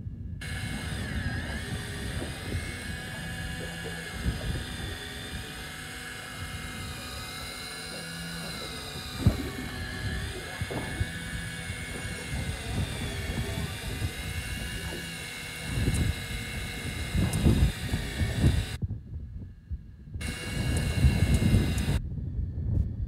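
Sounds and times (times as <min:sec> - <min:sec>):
fishing reel motor whine: 0:00.4 - 0:18.8, 0:20.2 - 0:22.0.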